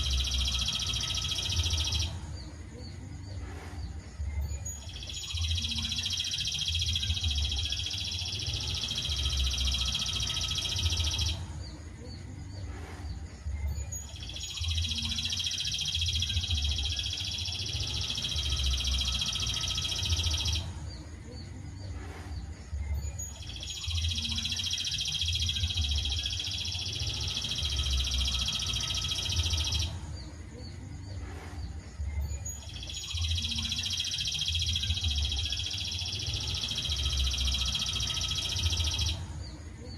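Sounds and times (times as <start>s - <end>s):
songbird rapid chirping: 0.0s - 39.9s.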